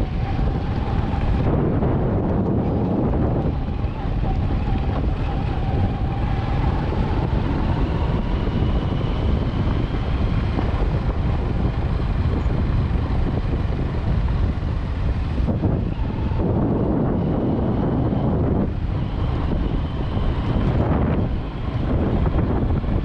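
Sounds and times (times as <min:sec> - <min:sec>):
vehicle road rumble: 0:00.0 - 0:23.0.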